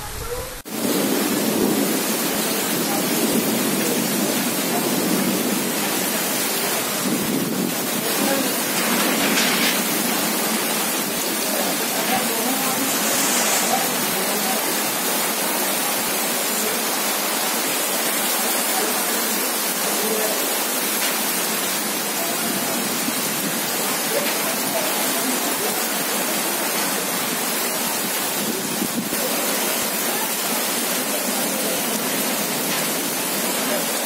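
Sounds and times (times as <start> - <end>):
heavy rain on wet ground: 0.0 - 34.0.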